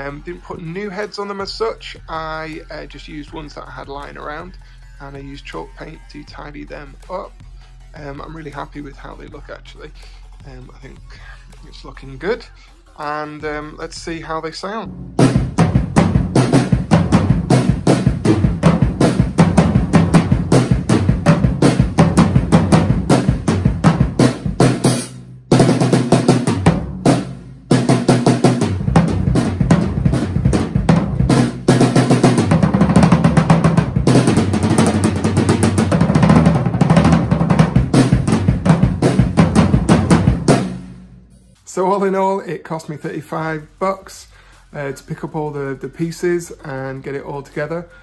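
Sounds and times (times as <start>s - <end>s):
drum kit playing: 0.0s - 41.9s.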